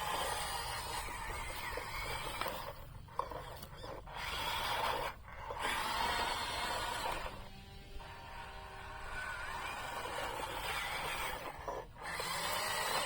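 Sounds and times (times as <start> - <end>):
rasping scraping noise: 0.0 - 7.4, 8.4 - 13.0.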